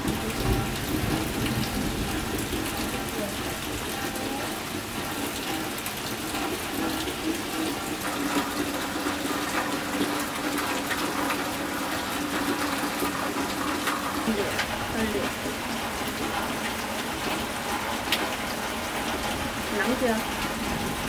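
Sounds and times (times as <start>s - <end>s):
steady rain falling: 0.0s - 21.0s
water drip ticks: 0.0s - 21.0s
water pouring and running: 0.0s - 21.0s.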